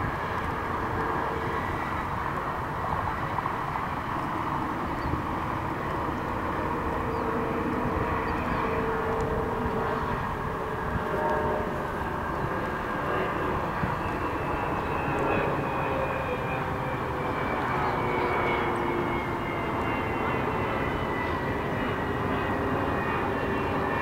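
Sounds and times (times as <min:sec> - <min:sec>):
constant rushing noise: 0:00.0 - 0:24.0
engine drone: 0:00.0 - 0:24.0.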